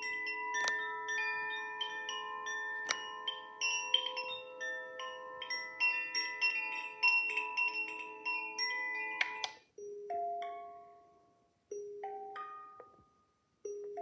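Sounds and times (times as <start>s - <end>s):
wind chime tones from alarm clock: 0.0s - 13.0s.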